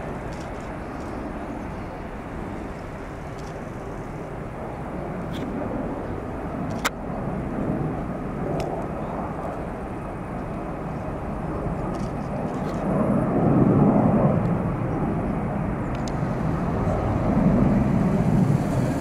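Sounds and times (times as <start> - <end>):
jet engines roaring on takeoff: 0.0 - 19.0.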